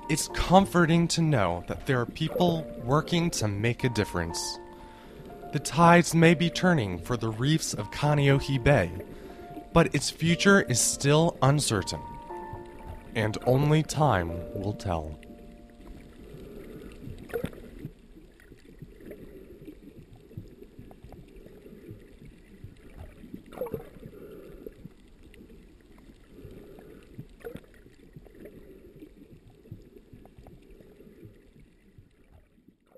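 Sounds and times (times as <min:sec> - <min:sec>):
water lapping and sloshing: 0:00.0 - 0:32.9.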